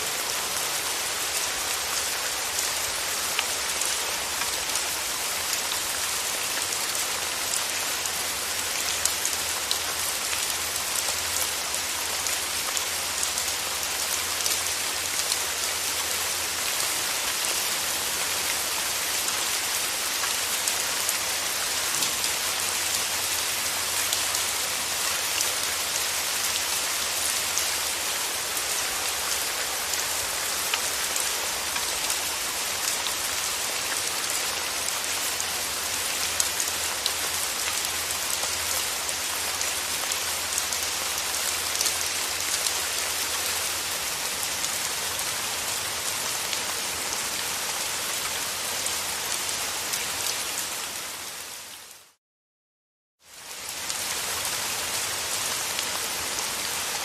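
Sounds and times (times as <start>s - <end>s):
steady rain: 0.0s - 52.2s, 53.2s - 57.0s.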